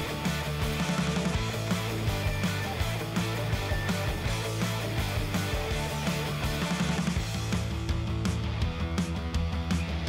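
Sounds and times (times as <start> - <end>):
rock music with steady beat: 0.0 - 10.0.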